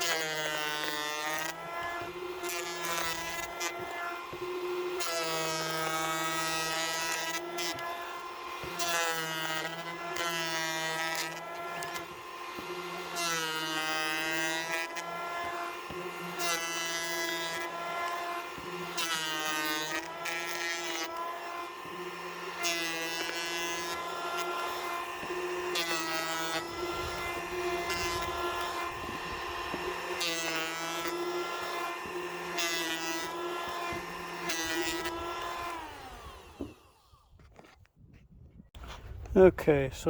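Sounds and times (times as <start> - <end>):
electric planer motor whine: 0.0 - 37.8.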